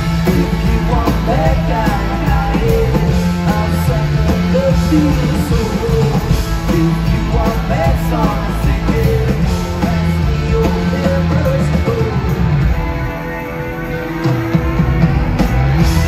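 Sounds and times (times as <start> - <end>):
electric guitar: 0.0 - 16.0
rock band playing live: 0.0 - 16.0.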